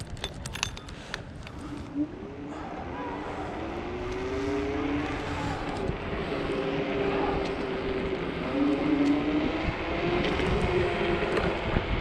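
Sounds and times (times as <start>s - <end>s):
electric scooter wavering hum: 0.0s - 12.0s
wind rumbling on microphone: 0.0s - 12.0s.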